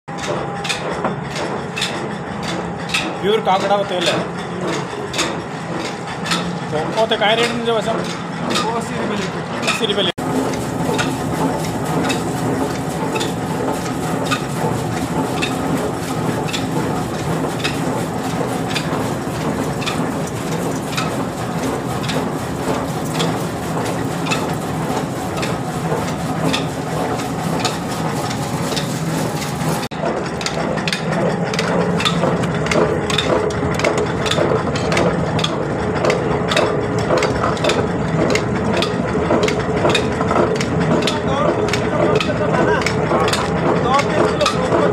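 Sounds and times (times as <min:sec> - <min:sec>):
machinery rumble: 0:00.2 - 0:44.9
regular sharp machine click: 0:00.2 - 0:44.9.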